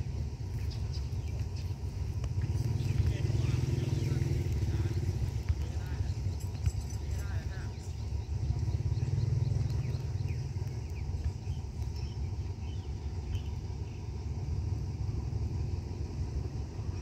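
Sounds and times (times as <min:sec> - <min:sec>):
diesel locomotive engine idling: 0:00.0 - 0:17.0
small birds chirping: 0:00.0 - 0:17.0.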